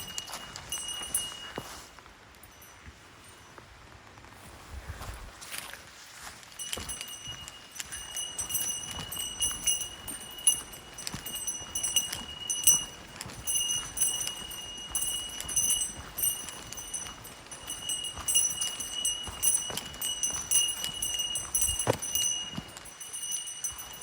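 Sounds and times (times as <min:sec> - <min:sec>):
bell jingling: 0:00.0 - 0:03.6, 0:06.5 - 0:24.0
footsteps on trail: 0:00.0 - 0:24.0.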